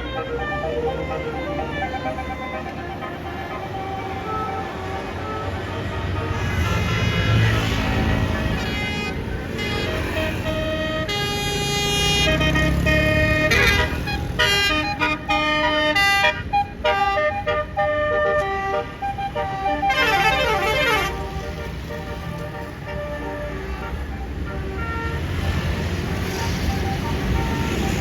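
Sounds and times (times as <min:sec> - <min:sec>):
low rumble of bus: 0:00.0 - 0:28.0
multi-tone musical bus horn: 0:00.0 - 0:28.0.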